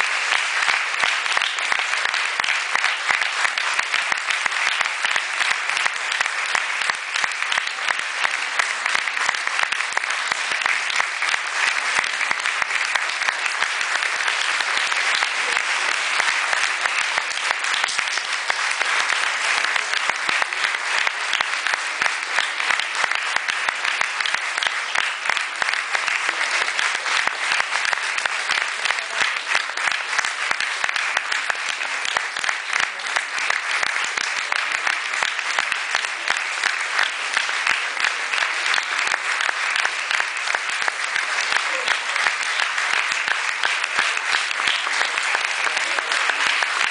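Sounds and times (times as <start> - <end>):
audience applauding: 0.0 - 46.9.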